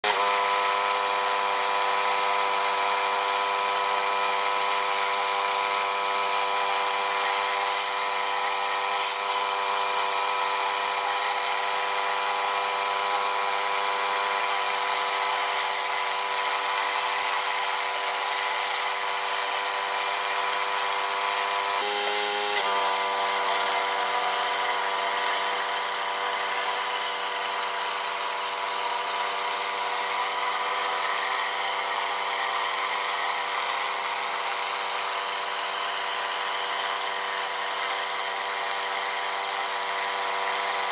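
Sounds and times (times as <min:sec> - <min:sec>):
pressure washer hum: 0:00.0 - 0:40.9.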